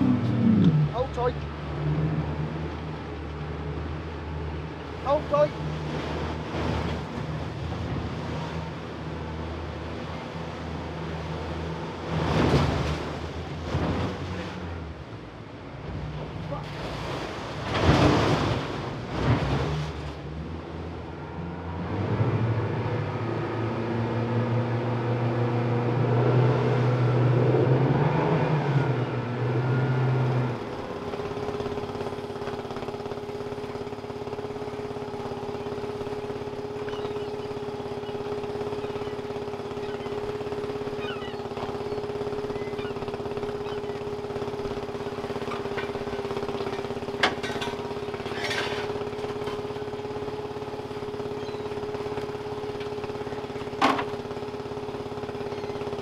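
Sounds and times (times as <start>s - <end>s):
boat engine running: 0.0s - 56.0s
constant hum: 0.0s - 56.0s.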